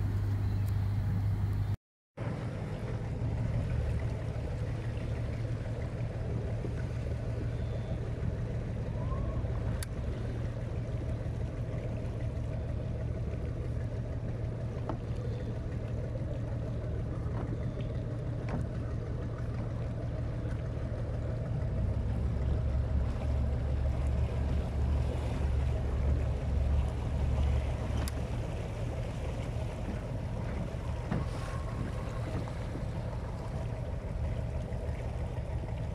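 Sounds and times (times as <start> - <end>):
boat motor low rumble: 0.0 - 35.9.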